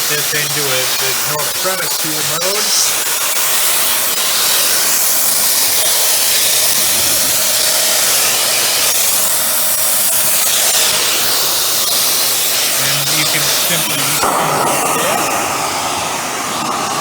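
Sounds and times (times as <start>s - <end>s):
vacuum cleaner suction hiss: 0.0s - 17.0s.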